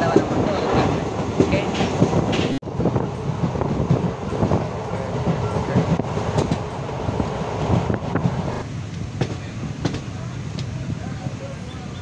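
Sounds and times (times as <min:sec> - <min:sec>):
train knocks: 0:00.0 - 0:10.8
train wheels rumbling on rails: 0:00.0 - 0:12.0.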